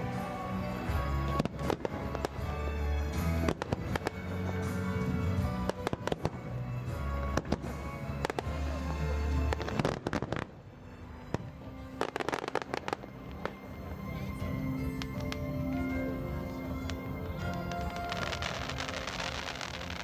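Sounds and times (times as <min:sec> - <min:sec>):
fireworks crackling and banging: 0:00.0 - 0:20.0
music playing: 0:00.0 - 0:20.0.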